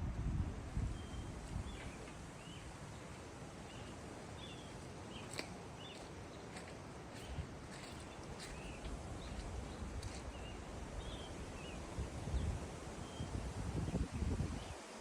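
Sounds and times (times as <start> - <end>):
outdoor background hiss: 0.0 - 15.0
birds chirping: 0.8 - 15.0.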